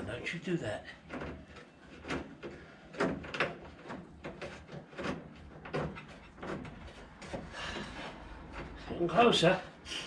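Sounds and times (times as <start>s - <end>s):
knocks and clunks of tools: 1.0s - 9.0s.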